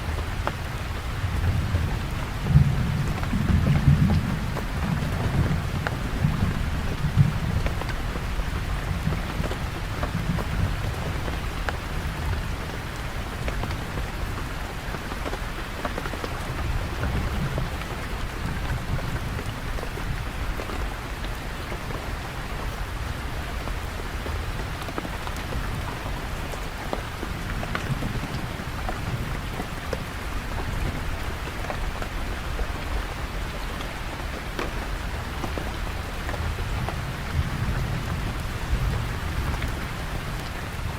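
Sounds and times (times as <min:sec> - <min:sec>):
rain drop taps: 0:00.0 - 0:22.8, 0:23.6 - 0:40.7
steady rain hiss: 0:00.0 - 0:40.9.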